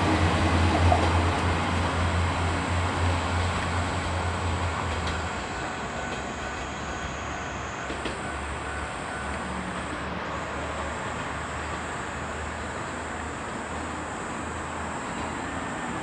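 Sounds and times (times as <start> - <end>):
diesel train engine and wheel rumble: 0.0 - 16.0.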